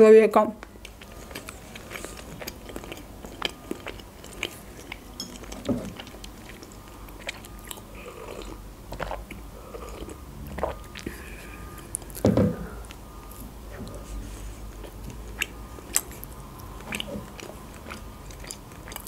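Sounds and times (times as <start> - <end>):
close-up chewing: 0.6 - 19.0
swallowing: 0.8 - 19.0.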